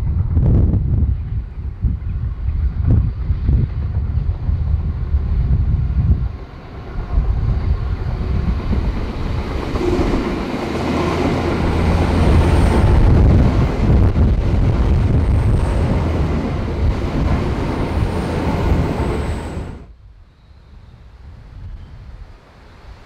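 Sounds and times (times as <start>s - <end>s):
wind buffeting microphone: 0.0s - 23.0s
train engines rumbling: 0.1s - 19.9s
train wheels on rail: 1.0s - 19.9s.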